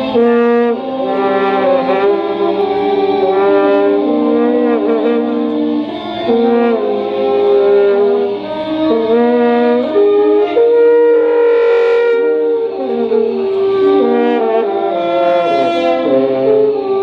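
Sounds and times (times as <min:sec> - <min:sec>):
wind and brass ensemble chords: 0:00.0 - 0:17.0.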